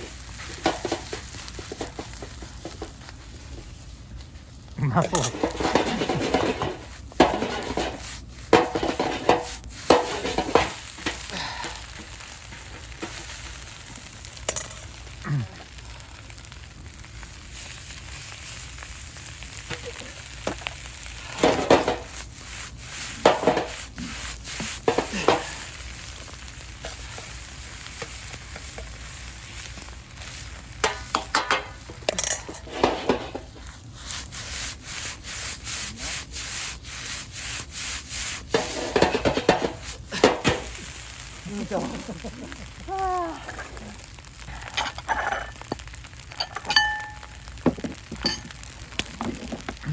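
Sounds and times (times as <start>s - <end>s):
rice sizzling in a frying pan: 0.0s - 49.9s
stirring and scraping in pan: 0.0s - 49.9s.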